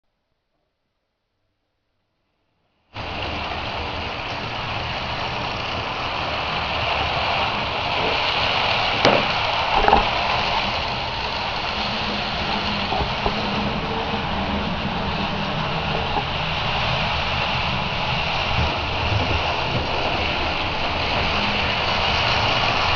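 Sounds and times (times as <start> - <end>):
model train humming and rumbling: 3.0 - 22.9.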